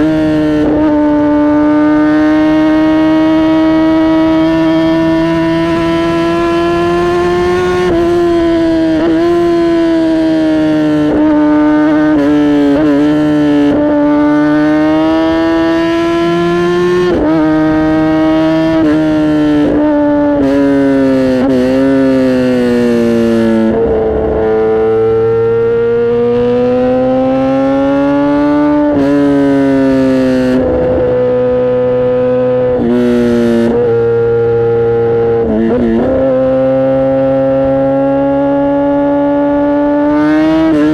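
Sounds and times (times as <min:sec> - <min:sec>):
motorcycle exhaust revving: 0:00.0 - 0:40.9.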